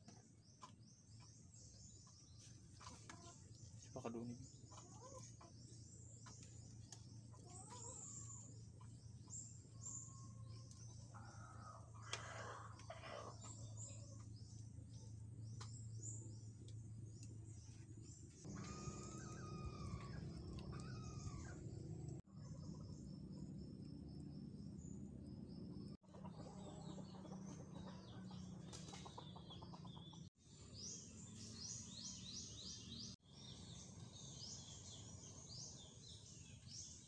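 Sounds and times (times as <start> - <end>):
faint birdsong: 0.0 - 37.0.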